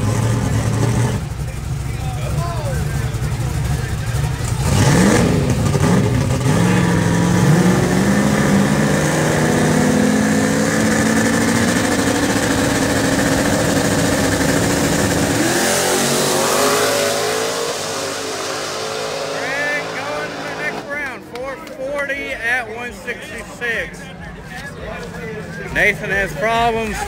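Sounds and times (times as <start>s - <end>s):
drag car engines at full throttle: 0.0s - 27.0s.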